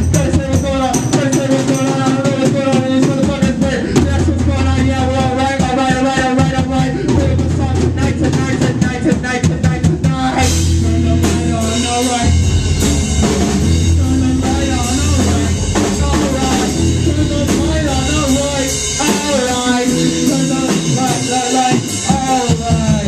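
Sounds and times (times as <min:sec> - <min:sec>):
person singing: 0:00.0 - 0:23.0
rock band playing: 0:00.0 - 0:23.0.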